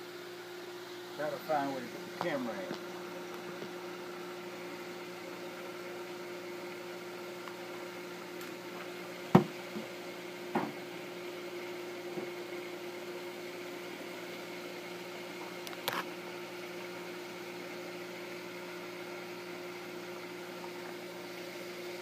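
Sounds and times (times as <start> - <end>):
appliance motor hum: 0.0 - 22.0.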